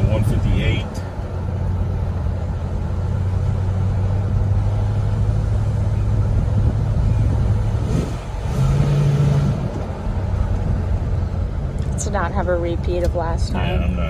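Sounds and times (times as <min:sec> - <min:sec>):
car engine droning from inside: 0:00.0 - 0:14.0.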